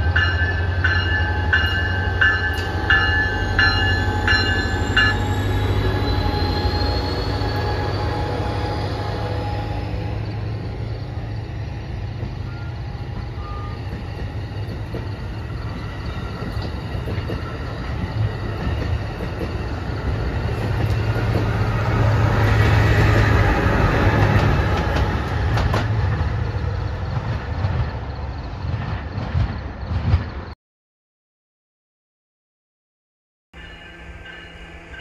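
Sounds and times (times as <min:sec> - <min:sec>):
train wheels rumbling on rails: 0:00.0 - 0:30.6.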